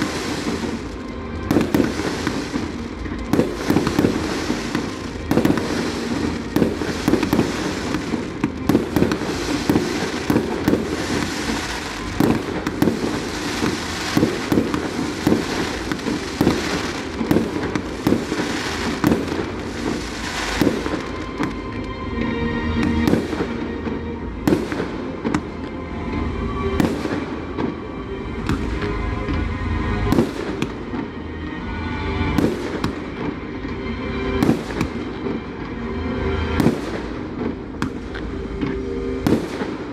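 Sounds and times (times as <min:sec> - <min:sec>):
firework bangs and crackles: 0:00.0 - 0:22.0, 0:22.7 - 0:31.2, 0:32.2 - 0:39.9.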